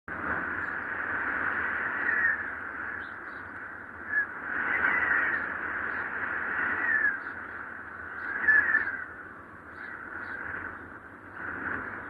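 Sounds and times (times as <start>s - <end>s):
wind whistling: 0.1s - 12.0s.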